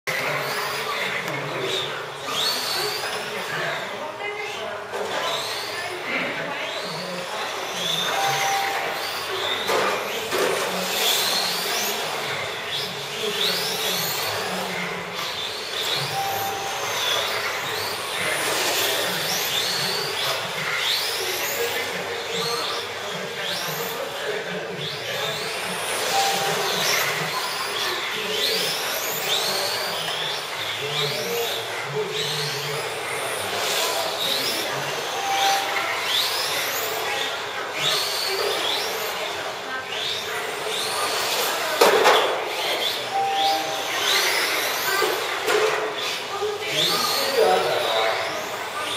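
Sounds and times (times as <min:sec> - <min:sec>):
high whine of electric motors: 0:00.1 - 0:48.9.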